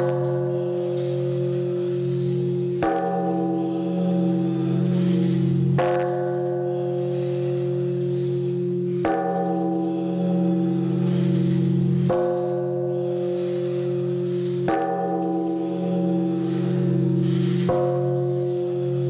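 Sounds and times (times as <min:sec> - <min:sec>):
temple bell struck with log: 0:00.0 - 0:19.0.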